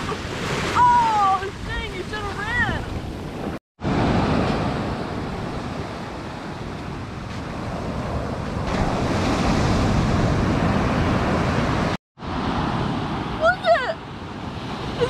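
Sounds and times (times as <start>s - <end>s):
ocean surf breaking on beach: 0.0s - 15.0s
wind rumbling on microphone: 1.0s - 13.4s.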